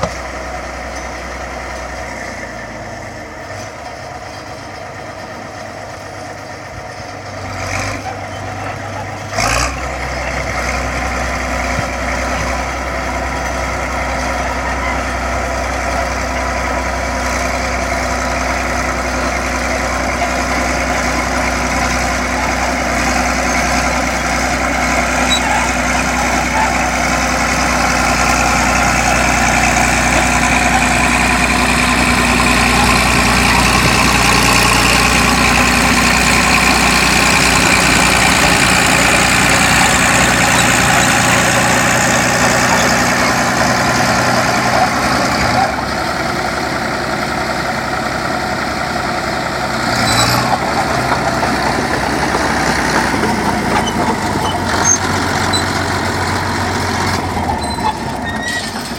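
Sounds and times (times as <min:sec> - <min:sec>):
bulldozer engine running under load: 0:00.0 - 0:58.9.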